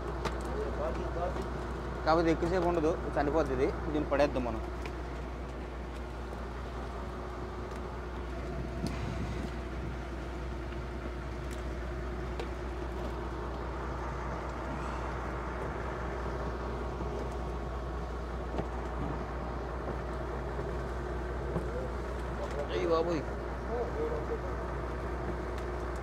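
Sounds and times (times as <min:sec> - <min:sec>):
boat diesel engine droning: 0:00.0 - 0:26.0.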